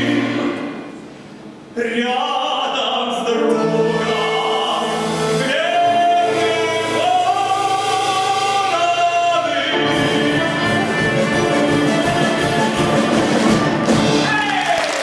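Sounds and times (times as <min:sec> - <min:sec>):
orchestral accompaniment: 0:00.0 - 0:01.5, 0:03.3 - 0:14.6.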